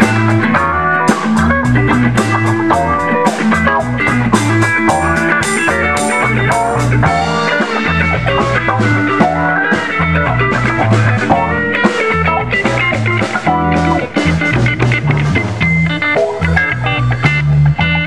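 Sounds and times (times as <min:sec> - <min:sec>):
drum hits: 0:00.0 - 0:15.5
bass guitar: 0:00.0 - 0:18.0
electric guitar: 0:00.0 - 0:18.0.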